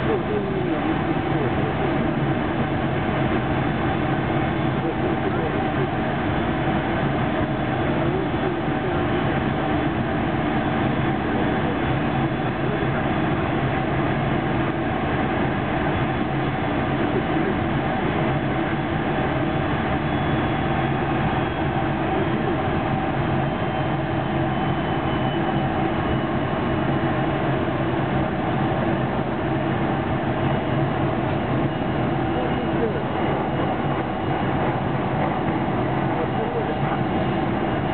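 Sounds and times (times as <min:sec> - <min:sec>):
faint high whine: 0:00.0 - 0:37.9.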